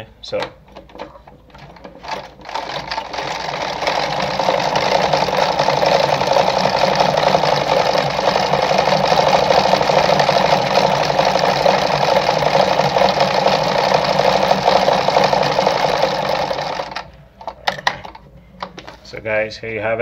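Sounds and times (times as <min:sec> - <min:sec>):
sewing machine clattering: 0:00.6 - 0:18.2.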